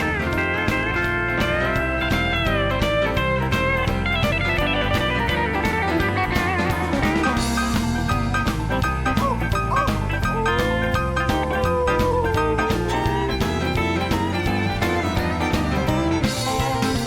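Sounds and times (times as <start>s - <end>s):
country guitar and drums music: 0.0s - 17.0s.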